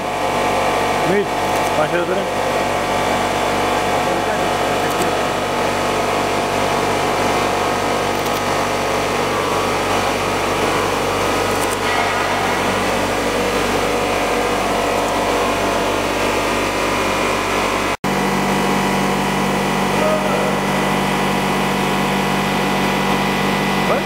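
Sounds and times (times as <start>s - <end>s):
constant motor hum tones: 0.0s - 24.0s
steady machine drone: 0.0s - 24.0s.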